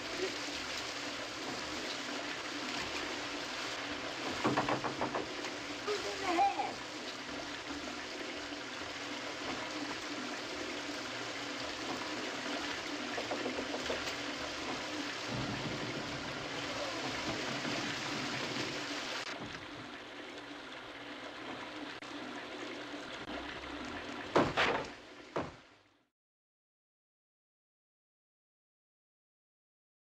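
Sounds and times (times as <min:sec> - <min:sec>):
water running into bathtub: 0:00.0 - 0:26.1.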